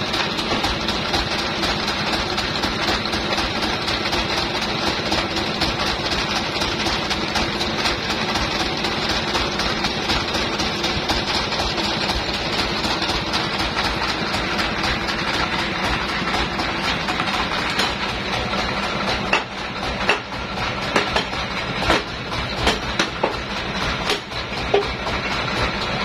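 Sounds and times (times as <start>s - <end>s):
knocks and clanks on metal: 0.0s - 26.0s
sawmill machinery humming: 0.0s - 26.0s.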